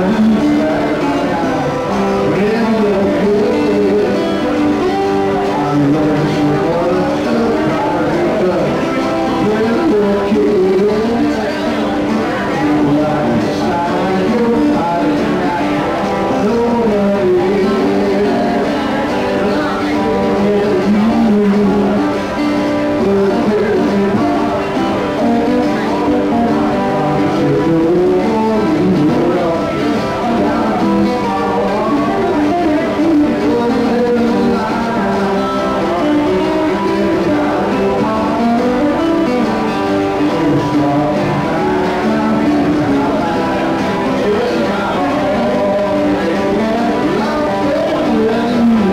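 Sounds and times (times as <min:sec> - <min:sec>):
acoustic guitar strumming: 0:00.0 - 0:48.9
man singing into a microphone: 0:00.0 - 0:48.9.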